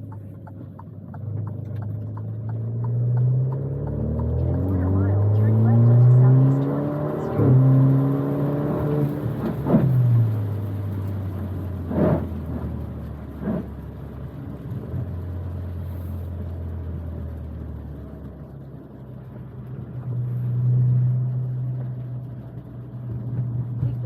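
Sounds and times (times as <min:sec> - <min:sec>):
car engine: 0:00.0 - 0:24.0.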